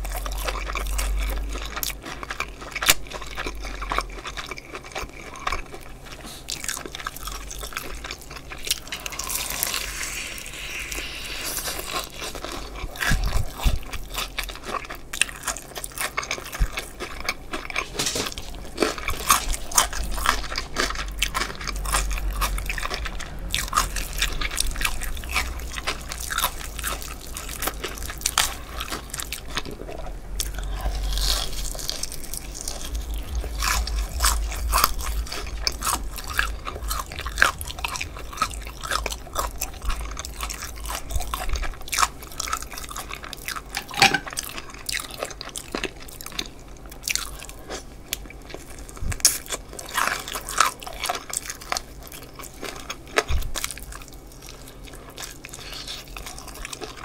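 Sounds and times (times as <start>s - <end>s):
crunching crispy fried chicken: 0.0s - 57.0s.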